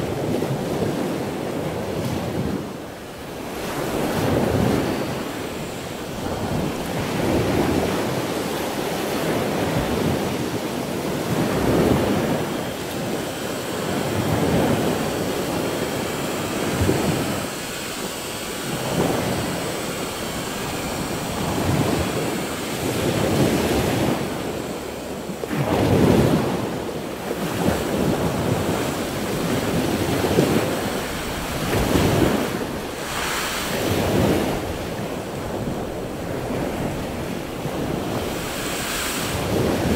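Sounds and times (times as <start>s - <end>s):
surf washing against a seawall: 0.0s - 39.9s.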